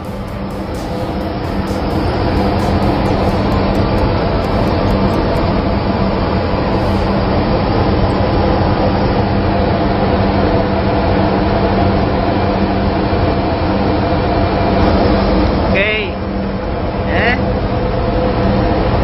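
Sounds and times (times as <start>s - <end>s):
engine room machinery drone: 0.0s - 19.0s.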